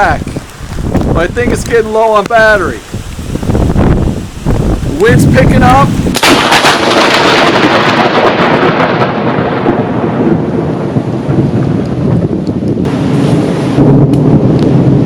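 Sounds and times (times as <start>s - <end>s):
rain: 0.0s - 15.0s
wind gusting on microphone: 0.0s - 15.0s
loud thunder rumbling: 2.6s - 15.0s.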